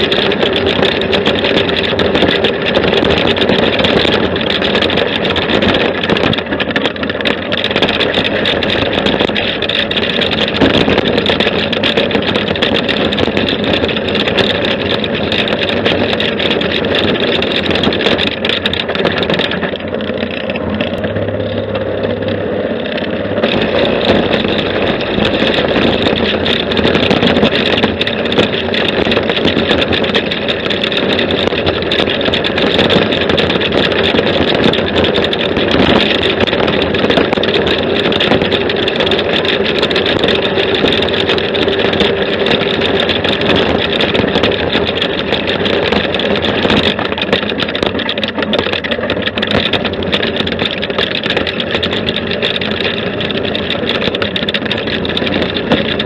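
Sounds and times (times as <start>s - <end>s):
buggy engine running: 0.0s - 56.0s
dense rushing noise: 0.0s - 56.0s.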